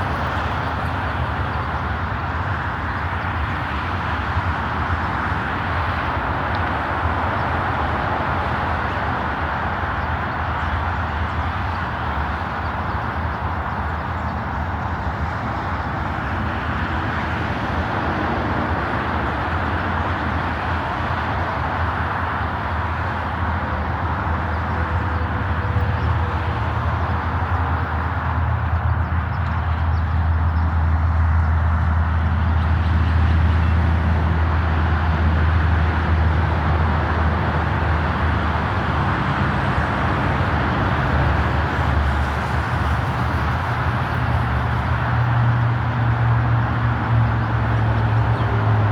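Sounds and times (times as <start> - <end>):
vehicle hum and hiss: 0.0 - 48.9.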